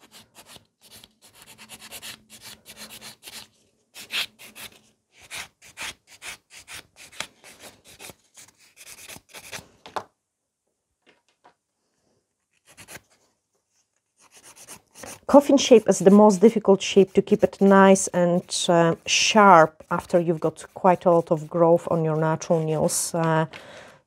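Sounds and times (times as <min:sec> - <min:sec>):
nail file rubbing nails: 0:00.0 - 0:09.6, 0:12.6 - 0:13.1, 0:14.2 - 0:23.3.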